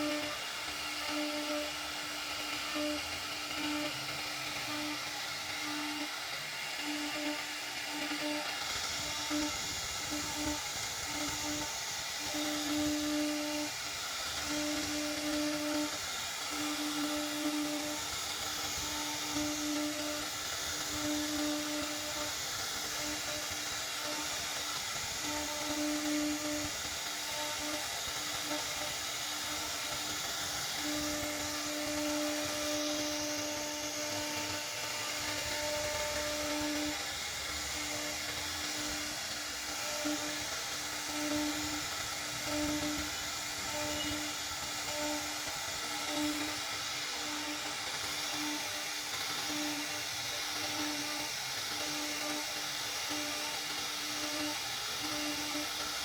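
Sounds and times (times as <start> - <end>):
lower machine tone: 0.0 - 55.8
router cutting wood: 0.0 - 56.0.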